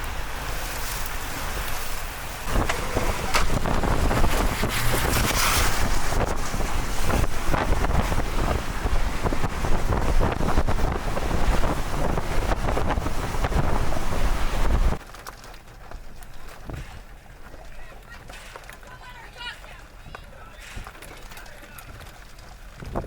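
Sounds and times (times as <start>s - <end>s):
strong wind buffeting microphone: 0.0s - 15.0s, 15.8s - 23.0s.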